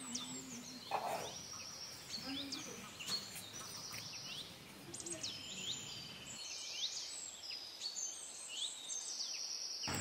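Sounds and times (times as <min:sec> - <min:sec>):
birds chirping and whistling: 0:00.0 - 0:10.0
faint background noise: 0:00.0 - 0:10.0.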